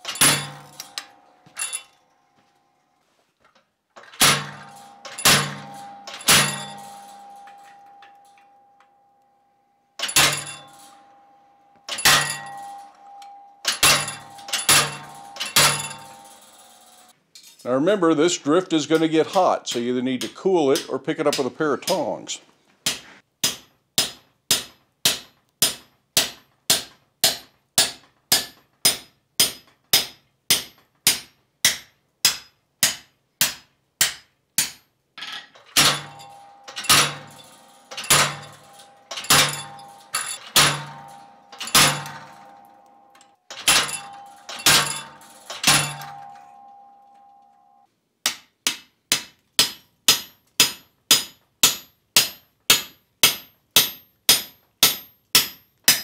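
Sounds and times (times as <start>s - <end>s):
hammer striking steel on anvil: 0.0s - 2.0s, 4.2s - 9.0s, 10.0s - 17.1s, 18.8s - 22.2s, 22.9s - 34.9s, 35.7s - 47.6s, 48.2s - 56.0s.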